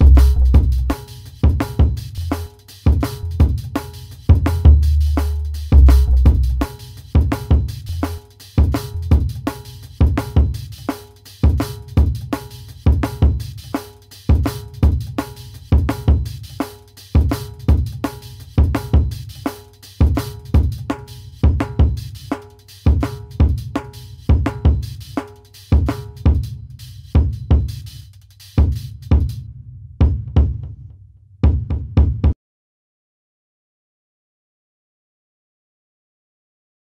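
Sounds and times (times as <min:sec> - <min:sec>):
drum-kit beat: 0:00.0 - 0:32.4.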